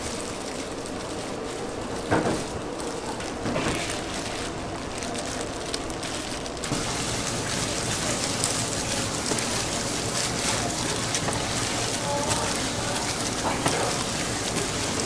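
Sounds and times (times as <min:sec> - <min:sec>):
dough deep-frying in hot oil: 0:00.0 - 0:15.0.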